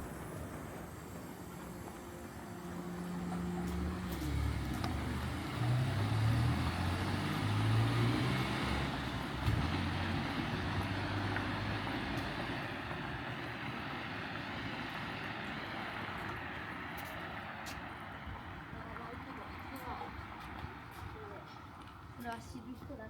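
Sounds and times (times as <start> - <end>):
vehicle engine passing by: 0.0 - 21.8
street noise: 0.0 - 23.0.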